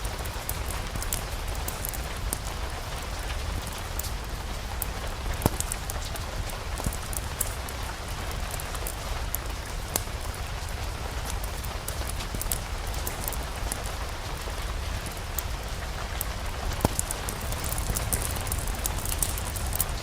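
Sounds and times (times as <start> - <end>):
sharp ticks and pops: 0.0 - 20.0
steady rain: 0.0 - 20.0.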